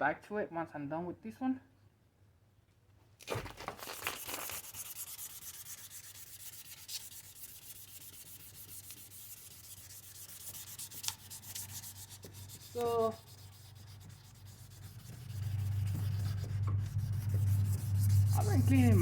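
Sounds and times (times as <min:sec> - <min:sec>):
sandpaper rubbing on plastic: 0:03.8 - 0:19.0.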